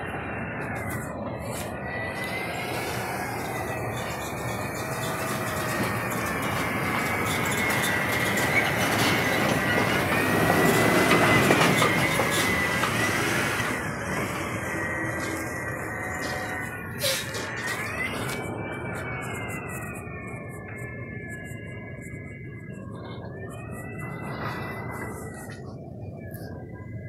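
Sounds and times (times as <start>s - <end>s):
steady high whine: 0.0s - 27.0s.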